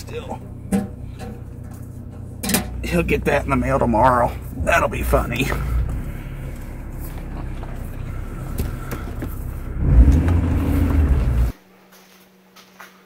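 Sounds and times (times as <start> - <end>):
car engine rumble from cabin: 0.0 - 11.6.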